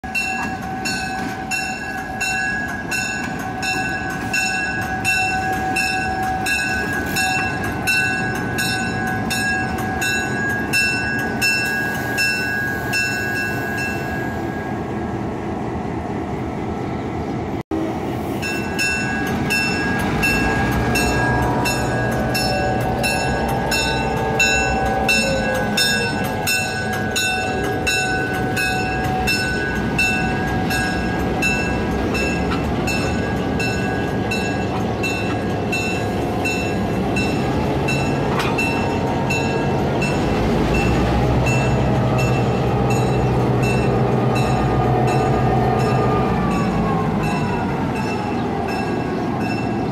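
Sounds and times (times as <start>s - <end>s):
crossing warning bell ringing: 0.0s - 15.1s, 17.8s - 49.9s
diesel locomotive rumble: 0.0s - 49.9s.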